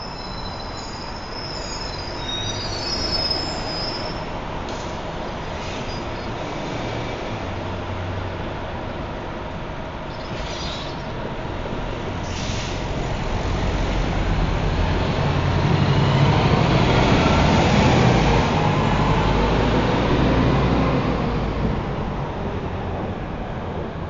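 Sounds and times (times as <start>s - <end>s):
train rumbling on steel bridge: 0.0s - 24.0s.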